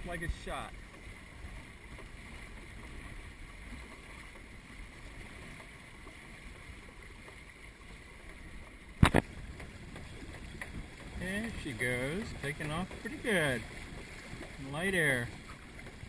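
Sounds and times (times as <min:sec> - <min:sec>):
water washing along hulls: 0:00.0 - 0:16.0.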